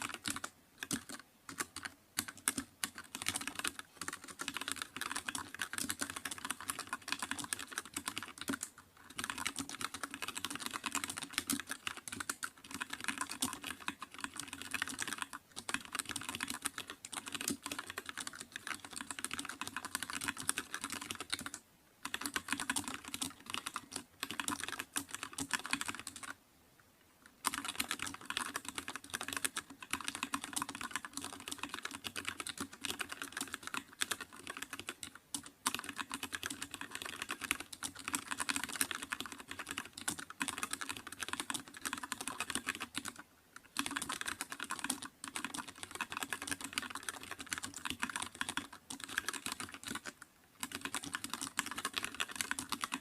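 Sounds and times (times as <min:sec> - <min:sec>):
rapid keyboard typing: 0:00.0 - 0:26.4, 0:27.3 - 0:53.0.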